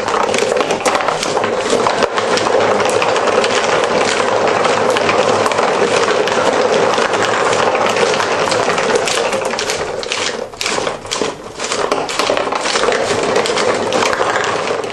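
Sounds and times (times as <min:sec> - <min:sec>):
marbles clattering on tracks: 0:00.0 - 0:14.9.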